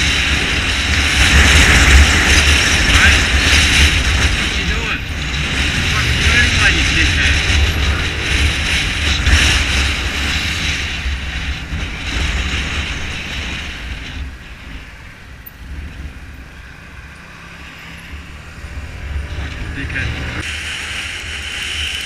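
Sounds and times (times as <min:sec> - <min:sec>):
low rumble: 0:00.0 - 0:22.0
wind rushing over microphone: 0:00.0 - 0:22.0.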